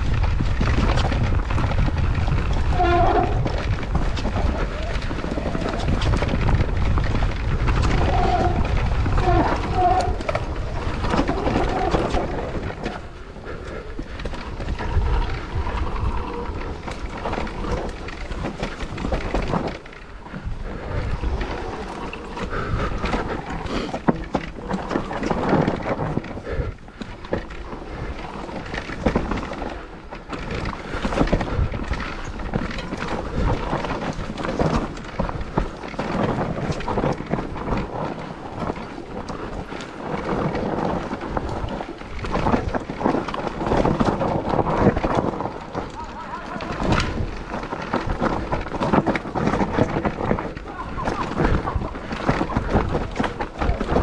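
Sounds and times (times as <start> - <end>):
bike clattering over bumps: 0.0 - 54.0
tyres rolling over dirt and rock: 0.0 - 54.0
wind rumbling on microphone: 0.0 - 54.0.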